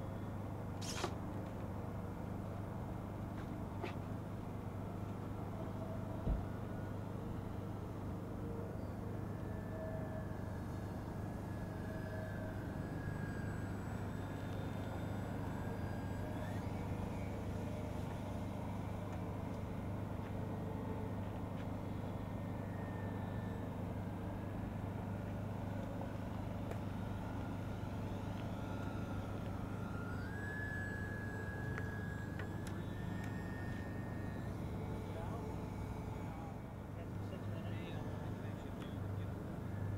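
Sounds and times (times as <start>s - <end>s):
model plane motors whining: 0.0s - 39.9s.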